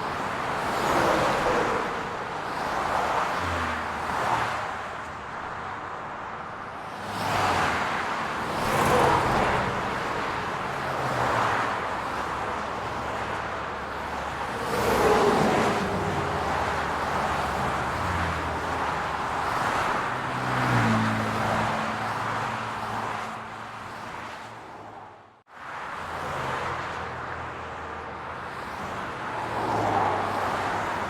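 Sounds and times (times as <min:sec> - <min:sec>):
steady hum of cars: 0:00.0 - 0:31.0
vehicles passing: 0:00.0 - 0:31.0.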